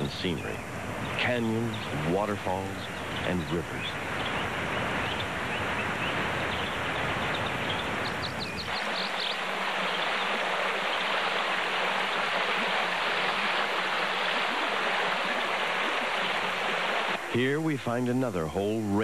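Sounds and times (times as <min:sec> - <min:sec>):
shallow stream over rocks: 0:01.1 - 0:17.4
waterfall pouring: 0:01.2 - 0:19.0.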